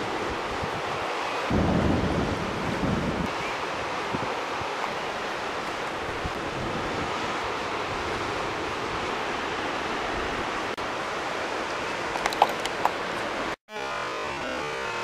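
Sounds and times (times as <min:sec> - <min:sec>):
storm wind and rain: 0:00.0 - 0:13.6.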